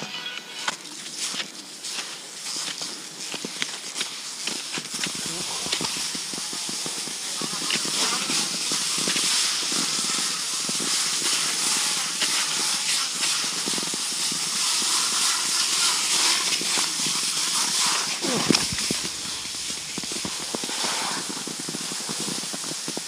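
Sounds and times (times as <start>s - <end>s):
skis sliding over snow: 0.0s - 23.0s.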